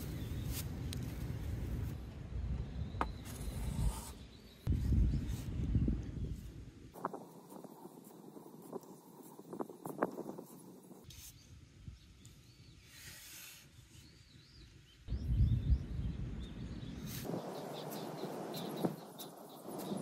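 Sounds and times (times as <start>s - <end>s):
small birds chirping: 0.0s - 2.0s, 2.6s - 20.0s.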